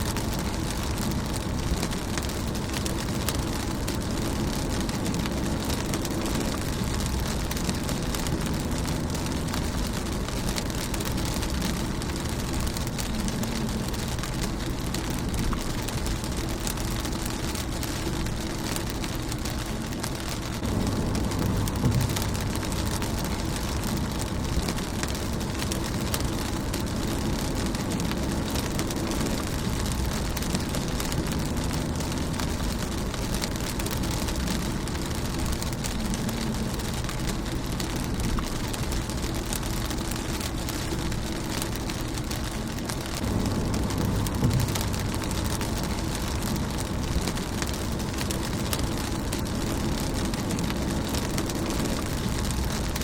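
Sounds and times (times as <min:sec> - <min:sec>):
low rumble: 0:00.0 - 0:53.0
rain on car windscreen: 0:00.0 - 0:53.0.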